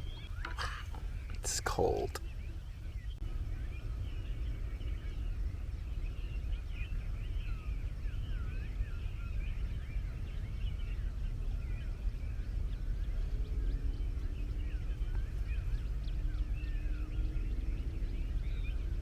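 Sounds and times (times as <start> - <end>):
birds chirping and singing: 0.0 - 19.0
low rumble: 2.1 - 19.0.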